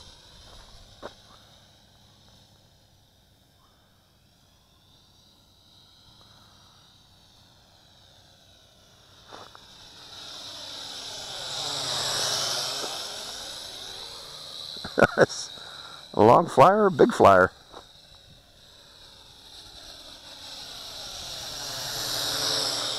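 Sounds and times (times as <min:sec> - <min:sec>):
drone motors whining: 0:00.0 - 0:22.9.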